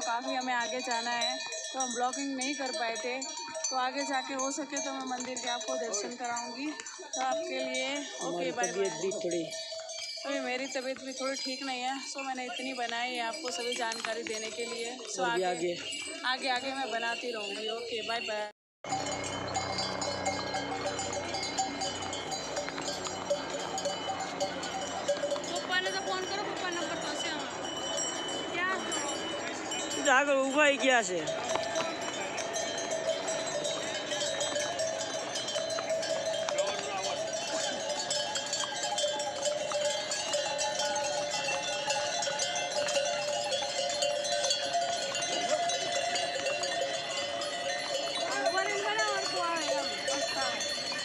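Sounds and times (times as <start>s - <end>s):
neck bells jingling: 0.0s - 51.0s.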